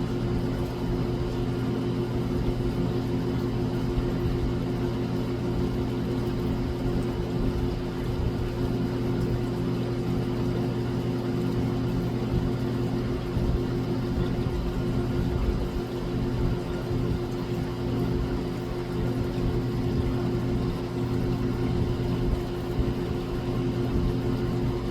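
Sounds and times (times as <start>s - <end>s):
steady mechanical hum: 0.0s - 24.9s.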